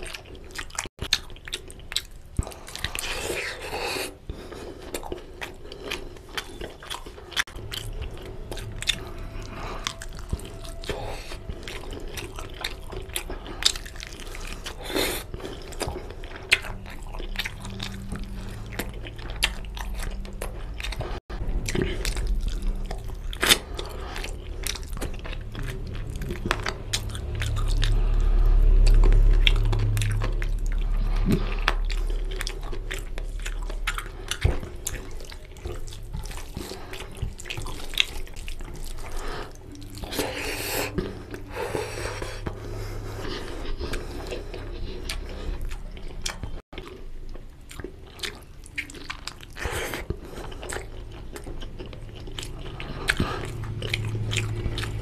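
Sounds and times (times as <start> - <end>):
wet chewing and lip smacking: 0.0 - 55.0.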